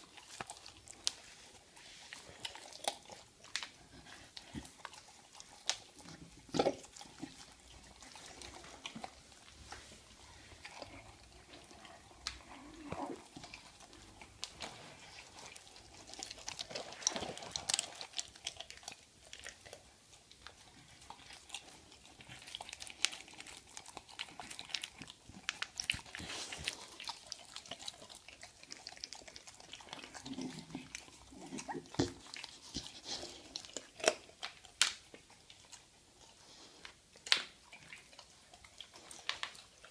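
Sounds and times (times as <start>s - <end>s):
dog chewing and crunching: 0.0s - 39.9s.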